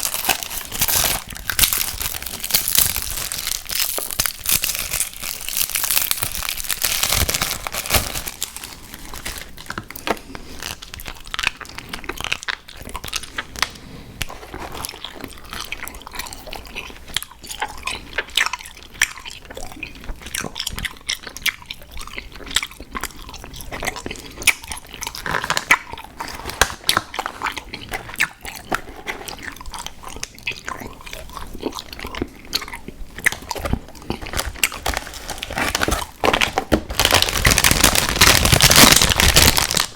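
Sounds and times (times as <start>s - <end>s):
chewing crunches and sticky clicks: 0.0s - 39.9s.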